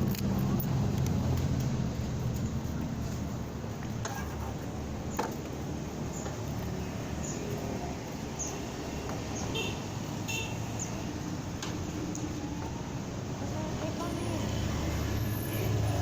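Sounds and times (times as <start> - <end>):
motorcycle engine and road noise: 0.0 - 16.0.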